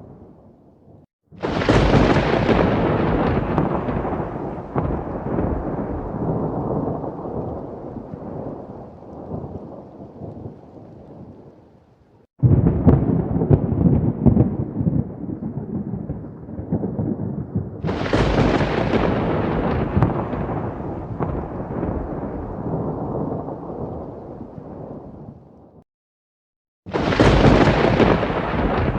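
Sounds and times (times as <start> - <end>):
thunder rumbling and crashing: 1.4 - 11.4, 12.4 - 25.8, 26.9 - 28.9.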